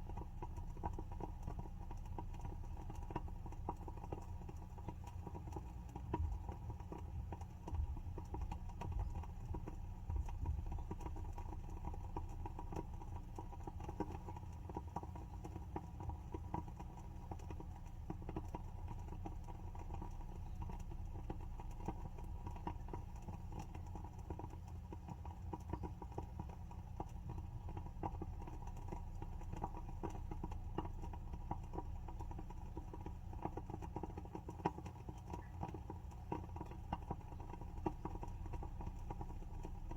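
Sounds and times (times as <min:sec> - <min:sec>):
steady low hum: 0:00.0 - 0:39.9
wooden candle wick crackling: 0:00.0 - 0:39.9.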